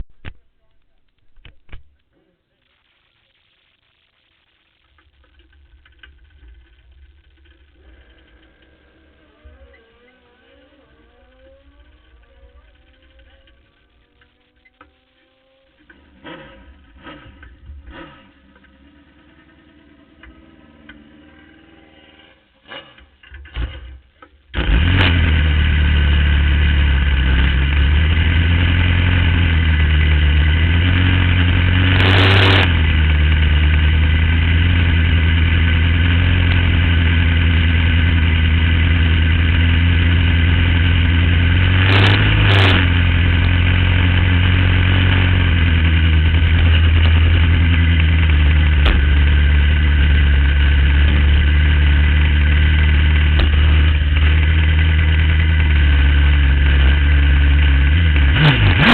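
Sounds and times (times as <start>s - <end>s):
motorcycle engine idling: 4.8s - 21.8s, 25.2s - 32.0s, 32.7s - 58.4s.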